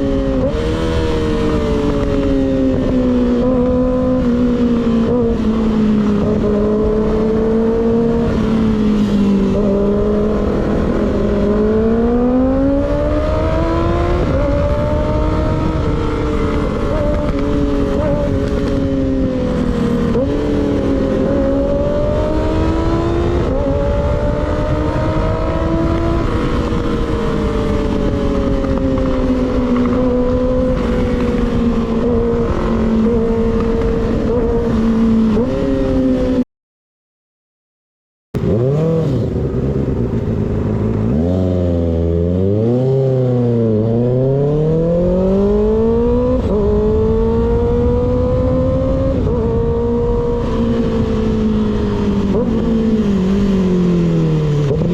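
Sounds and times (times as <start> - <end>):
motorcycle engine revving: 0.0 - 36.4, 38.4 - 54.9
wind rush: 0.0 - 36.4, 44.7 - 54.9.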